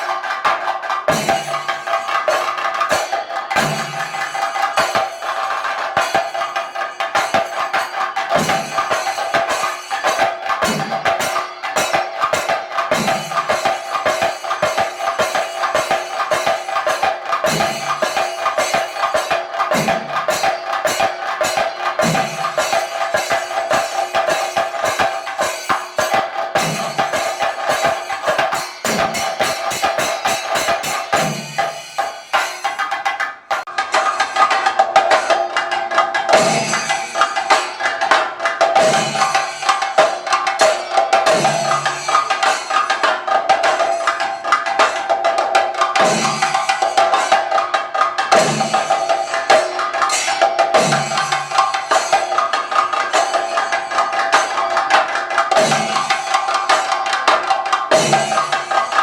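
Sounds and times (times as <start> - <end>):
drums playing fast roll: 0.0 - 59.0.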